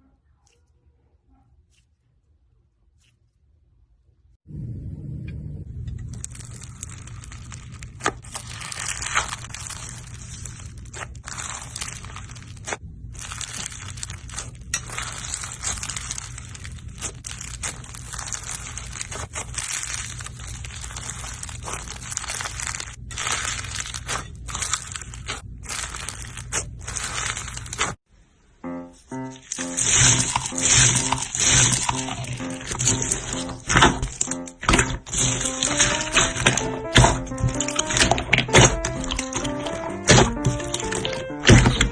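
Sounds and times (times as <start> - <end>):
low steady hum: 3.9 - 41.9
slime crackling when squeezed: 6.1 - 28.0, 29.3 - 41.9.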